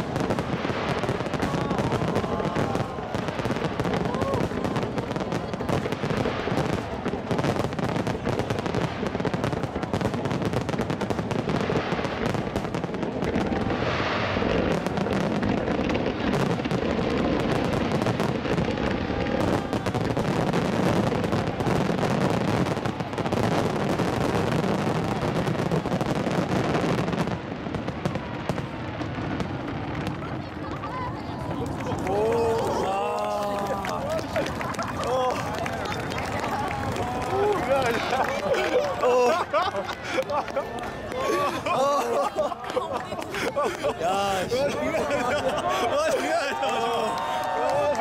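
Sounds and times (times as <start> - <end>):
fireworks bangs and crackle: 0.0 - 48.0.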